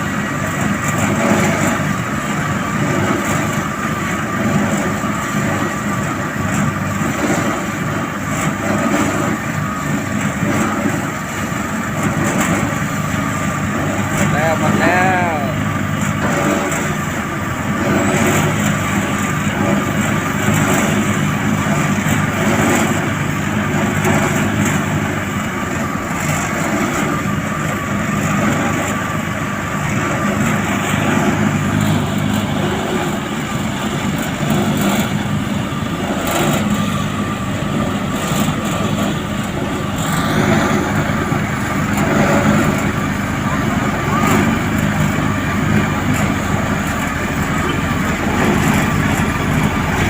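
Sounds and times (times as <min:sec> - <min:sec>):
paving machinery diesel engines: 0:00.0 - 0:50.0.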